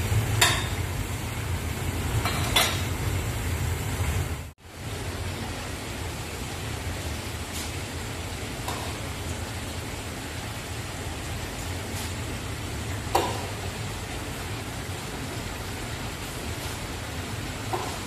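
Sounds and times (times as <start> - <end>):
broth boiling hard: 0.0 - 18.0.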